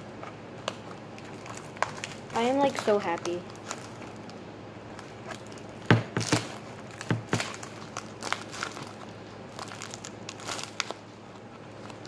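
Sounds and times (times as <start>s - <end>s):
plastic wrapping crinkling: 0.5s - 12.0s.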